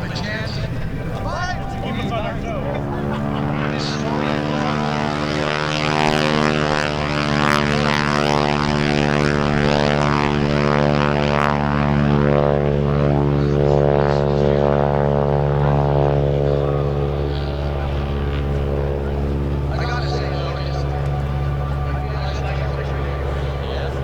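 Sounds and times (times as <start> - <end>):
biplane engine and propeller: 0.0 - 24.0.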